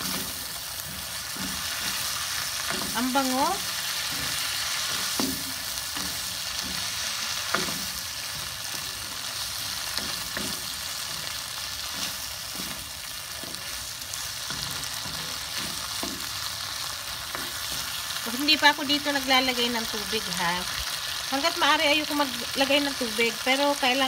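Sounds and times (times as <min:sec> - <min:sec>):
food sizzling in a wok: 0:00.0 - 0:24.0.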